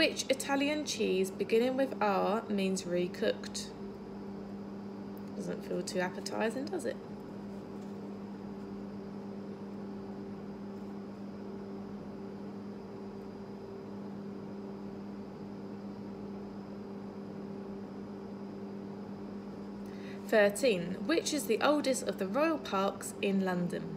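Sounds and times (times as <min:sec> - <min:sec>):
appliance low hum: 0:00.0 - 0:23.9.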